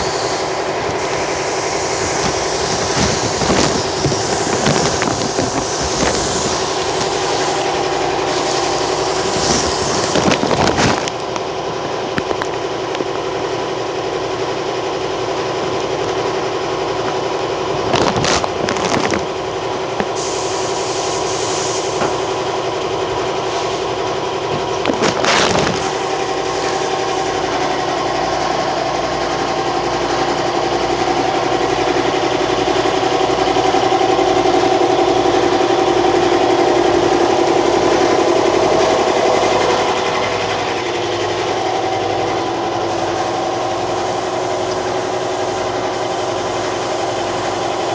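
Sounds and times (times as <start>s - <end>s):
spray rig motor running: 0.0s - 47.9s.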